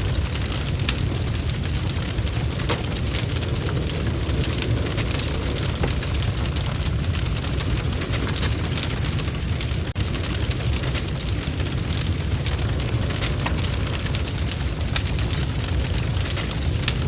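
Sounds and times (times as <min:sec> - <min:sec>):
fire crackling and popping: 0:00.0 - 0:17.0
wood fire rumbling: 0:00.0 - 0:17.0.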